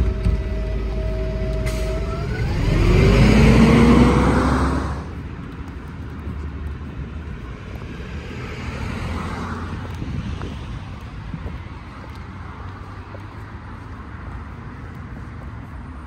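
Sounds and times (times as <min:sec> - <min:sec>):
bus engine accelerating: 0:00.0 - 0:16.0
steady traffic noise: 0:00.0 - 0:16.0.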